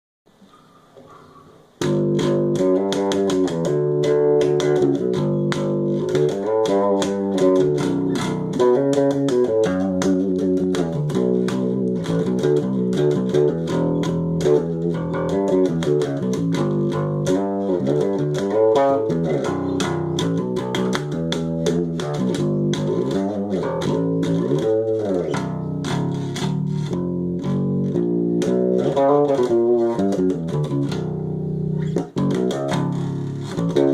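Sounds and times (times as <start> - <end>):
electric bass guitar groove: 1.8 - 33.9.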